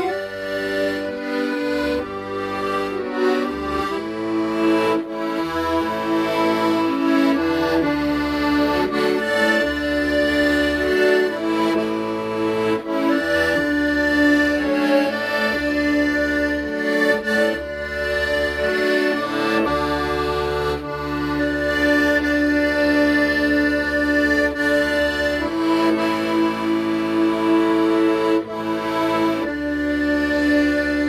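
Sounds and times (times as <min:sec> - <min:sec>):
accordion melody: 0:00.0 - 0:31.0.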